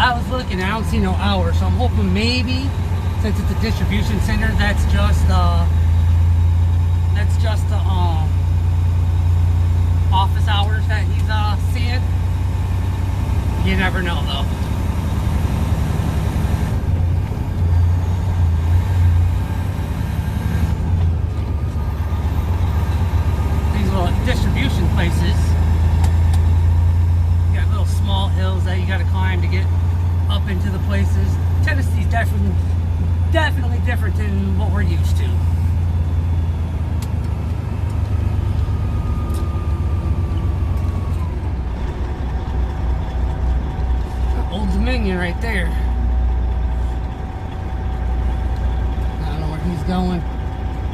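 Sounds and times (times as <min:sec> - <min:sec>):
road noise: 0:00.0 - 0:50.9
truck diesel engine running: 0:00.0 - 0:50.9.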